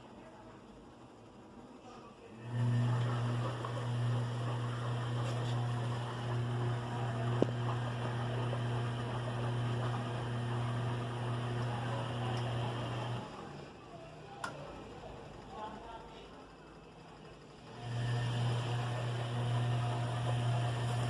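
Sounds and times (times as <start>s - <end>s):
washing machine motor humming: 0.0s - 21.0s.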